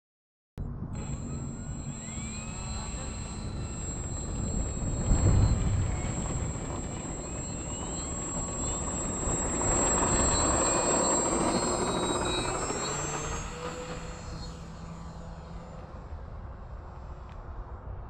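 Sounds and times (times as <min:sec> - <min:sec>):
electric motor and propeller whine: 0:00.6 - 0:18.0.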